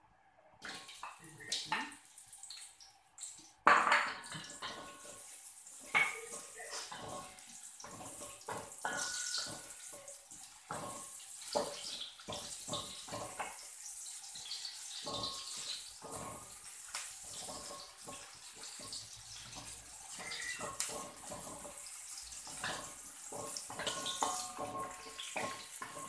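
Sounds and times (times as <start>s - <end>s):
shallots sizzling in oil: 4.2s - 26.0s.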